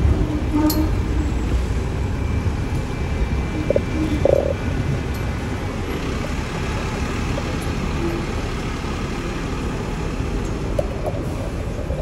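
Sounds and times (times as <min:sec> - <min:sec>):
street traffic: 0:00.0 - 0:12.0
tram rumbling: 0:00.0 - 0:12.0.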